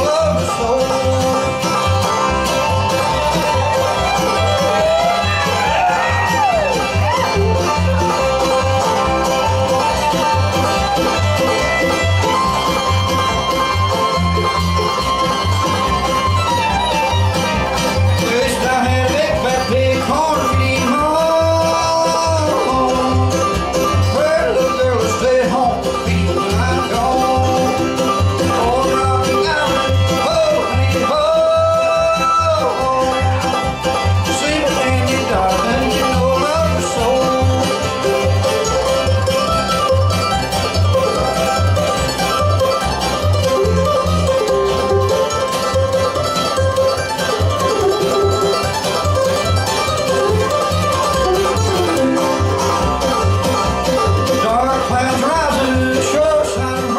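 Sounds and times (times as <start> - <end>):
bluegrass band playing: 0.0 - 56.9.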